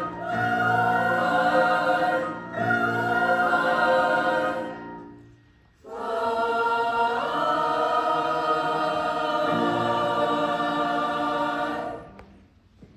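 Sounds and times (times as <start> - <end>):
choir singing held chord: 0.0 - 12.2.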